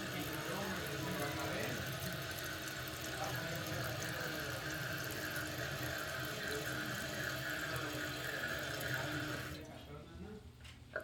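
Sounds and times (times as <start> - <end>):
toilet tank refilling: 0.0 - 9.7.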